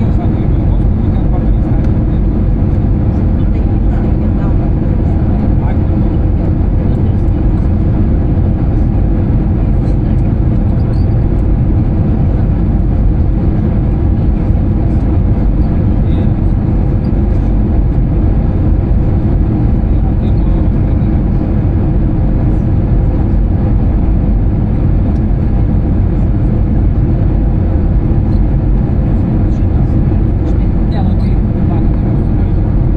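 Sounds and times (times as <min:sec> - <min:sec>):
aircraft cabin engine noise: 0:00.0 - 0:32.9.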